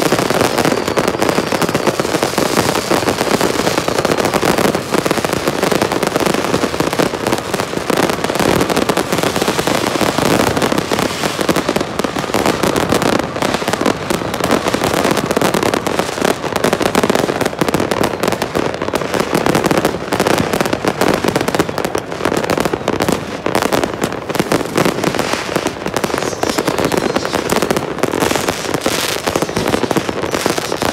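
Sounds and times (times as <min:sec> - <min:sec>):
fireworks crackling and banging: 0:00.0 - 0:30.9.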